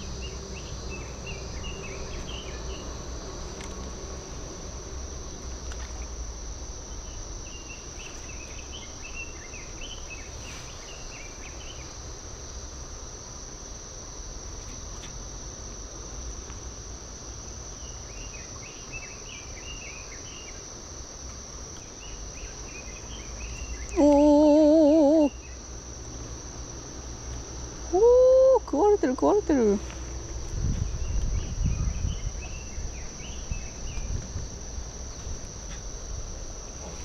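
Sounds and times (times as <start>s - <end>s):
insects shrilling: 0.0s - 37.0s
low outdoor rumble: 0.0s - 37.0s.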